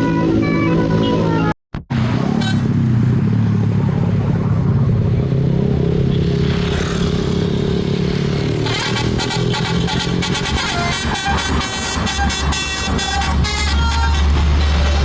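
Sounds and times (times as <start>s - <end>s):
vehicle engine low drone: 0.0s - 15.0s.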